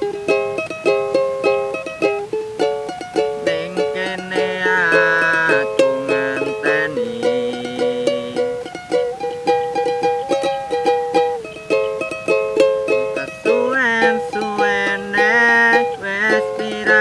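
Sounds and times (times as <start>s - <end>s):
ukulele strummed and picked: 0.0s - 17.0s.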